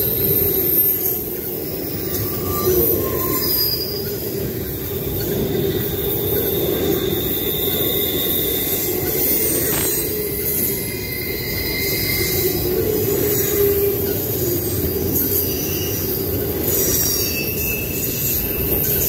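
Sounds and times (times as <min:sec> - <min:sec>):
high wheel squeals: 0:00.0 - 0:19.0
train wheels rumbling on rail: 0:00.0 - 0:19.0.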